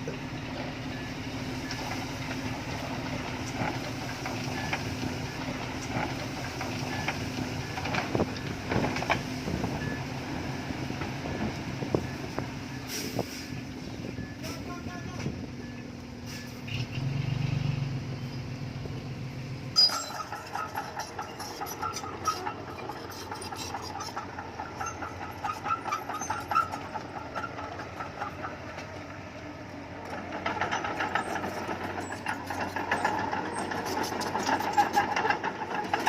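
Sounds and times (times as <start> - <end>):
bulldozer diesel engine: 0.0 - 36.0
metallic clatter and squeal: 1.6 - 10.1, 11.4 - 17.5, 19.7 - 29.1, 30.0 - 36.0.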